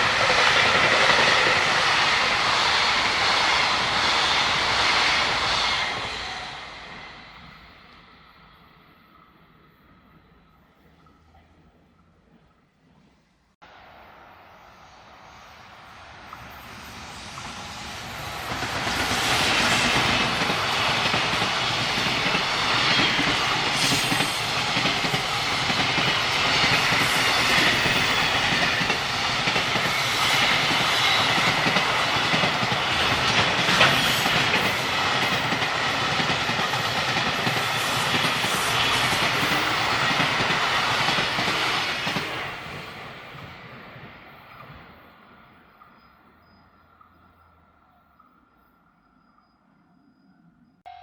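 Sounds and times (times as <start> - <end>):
freight train wheels on rails: 0.0 - 10.3, 13.6 - 47.5.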